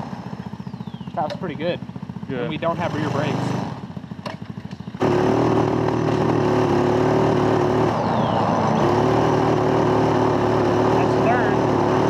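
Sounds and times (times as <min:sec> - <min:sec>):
go-kart engine running: 0:00.0 - 0:12.0.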